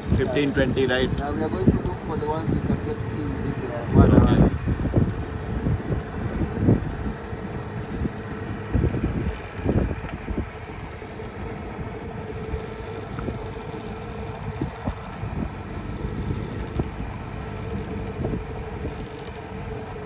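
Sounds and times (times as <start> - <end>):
boat motor running: 0.0 - 20.0
wind on microphone: 0.0 - 20.0.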